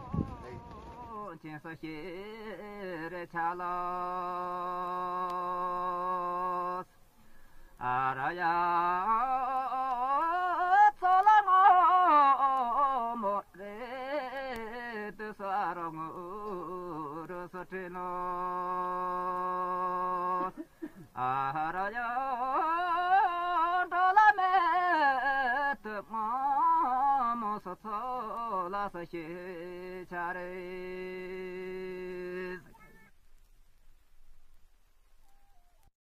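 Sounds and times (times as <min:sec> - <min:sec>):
person singing ornamented melody: 0:00.0 - 0:06.9, 0:07.8 - 0:33.1.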